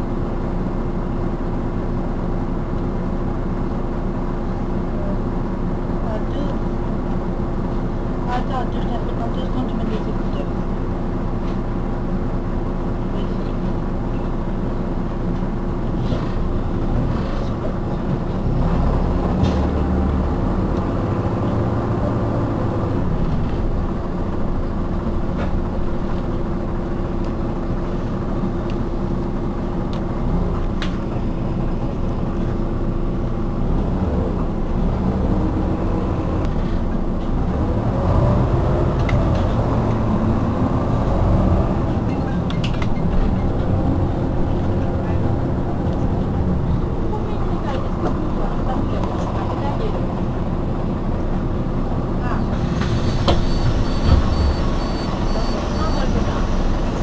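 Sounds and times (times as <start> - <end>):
bus engine idling: 0.0 - 57.0.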